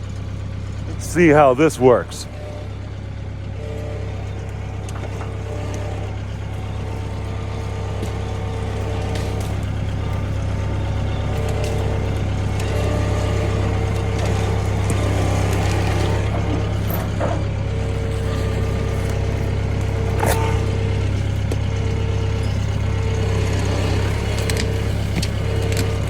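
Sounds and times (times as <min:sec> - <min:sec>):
sawmill engine drone: 0:00.0 - 0:26.0.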